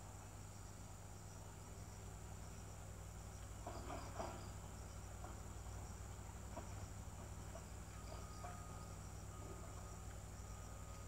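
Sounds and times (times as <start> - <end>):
crickets droning: 0.0 - 11.0
low hum: 0.0 - 11.0.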